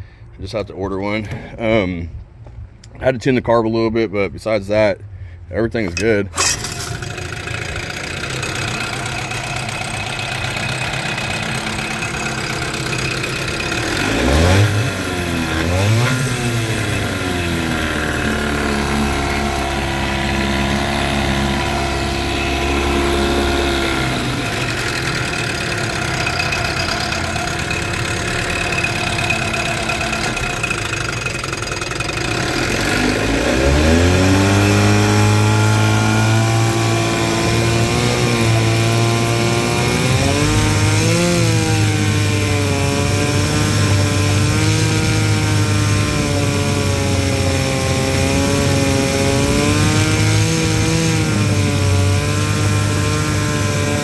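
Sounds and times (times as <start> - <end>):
outboard motor running: 6.3 - 54.0.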